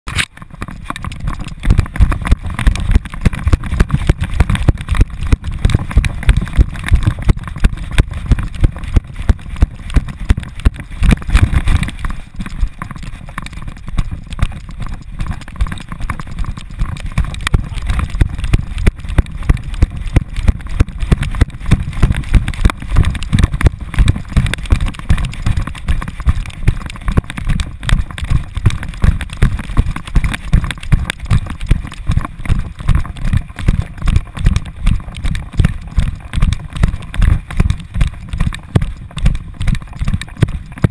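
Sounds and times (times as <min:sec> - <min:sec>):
wind noise: 0:00.1 - 0:40.9.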